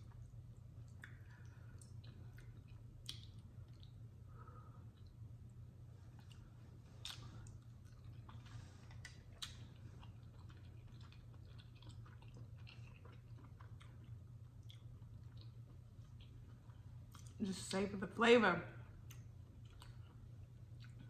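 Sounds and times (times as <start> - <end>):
chewing: 0.0 - 17.4, 19.0 - 21.0
steady low hum: 0.0 - 21.0.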